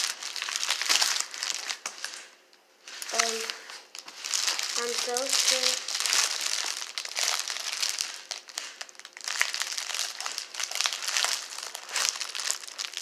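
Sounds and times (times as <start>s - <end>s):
plastic bubble mailer crinkling: 0.0s - 13.0s.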